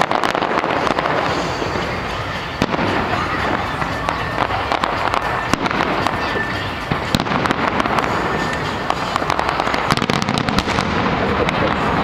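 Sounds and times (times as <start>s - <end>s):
fireworks crackling and popping: 0.0s - 12.0s
noisy din: 0.0s - 12.0s.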